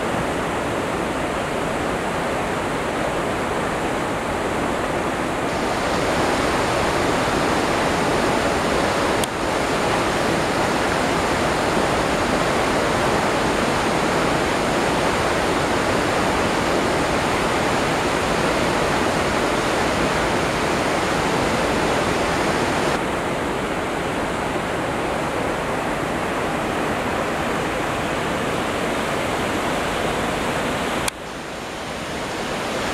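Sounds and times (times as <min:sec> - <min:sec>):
river water rushing over boulders: 0:00.0 - 0:32.9.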